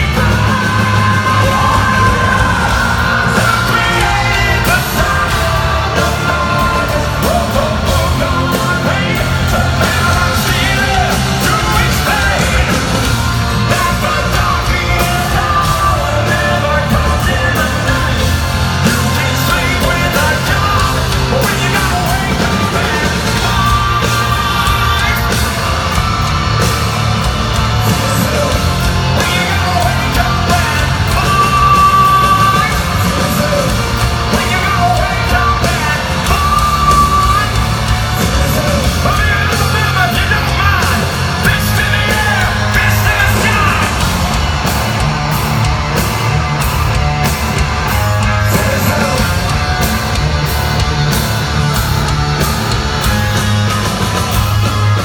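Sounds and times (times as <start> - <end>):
bass: 0.0 - 55.0
distorted electric guitars: 0.0 - 55.0
drums: 0.0 - 55.0
yelled sung vocals: 0.0 - 55.0.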